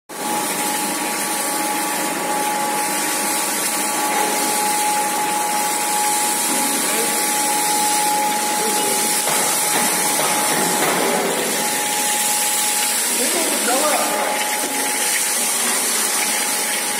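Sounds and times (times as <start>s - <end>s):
machine whirring with high whine: 0.1s - 16.9s.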